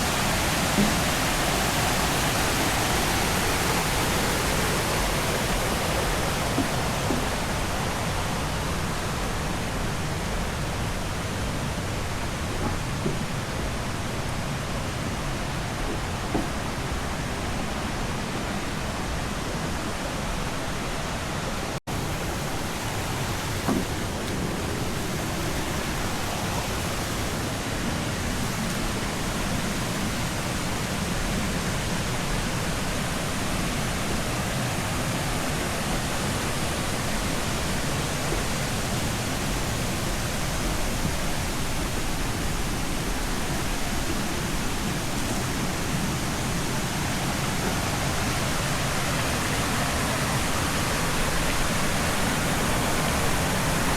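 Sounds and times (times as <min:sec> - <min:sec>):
rushing stream and waterfalls: 0:00.0 - 0:53.9.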